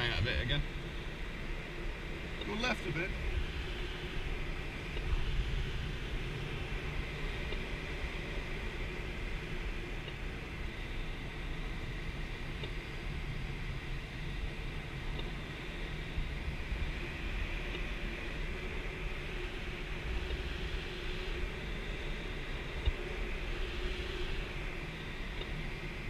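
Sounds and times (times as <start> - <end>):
air rushing over glider canopy: 0.0 - 26.0.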